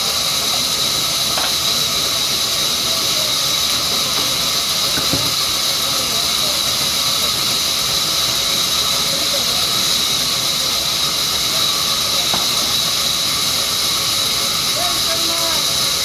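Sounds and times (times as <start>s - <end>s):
band saw cutting wood: 0.0s - 16.0s.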